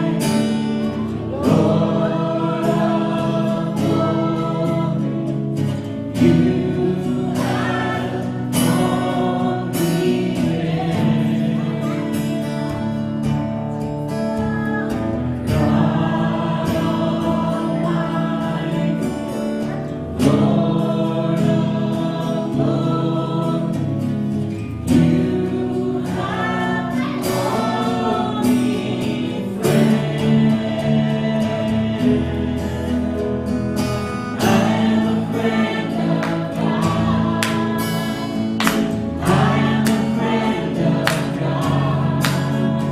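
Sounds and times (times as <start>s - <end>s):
choir singing: 0.0s - 13.1s, 14.9s - 42.9s.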